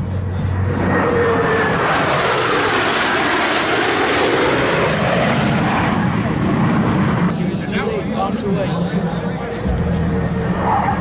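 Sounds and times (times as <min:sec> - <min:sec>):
jet flying past: 0:00.0 - 0:11.0.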